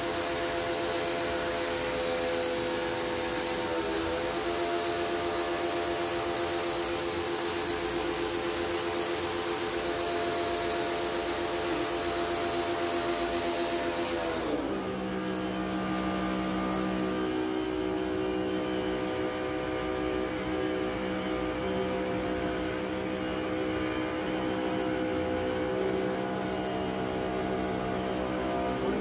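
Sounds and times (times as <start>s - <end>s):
pressure washer motor humming: 0.0s - 29.0s.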